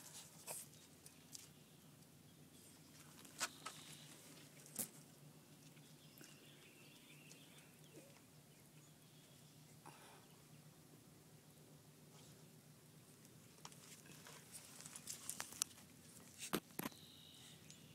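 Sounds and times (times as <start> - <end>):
faint low hum: 0.0 - 17.9.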